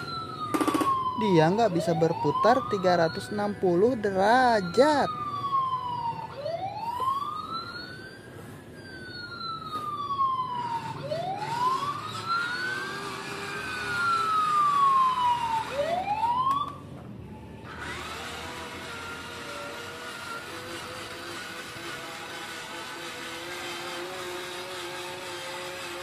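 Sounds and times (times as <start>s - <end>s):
toy siren wailing: 0.0s - 26.0s.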